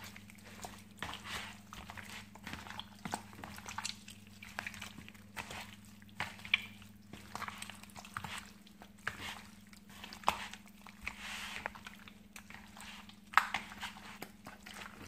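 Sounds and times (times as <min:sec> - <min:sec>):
wet squelching of raw chicken: 0:00.0 - 0:15.0.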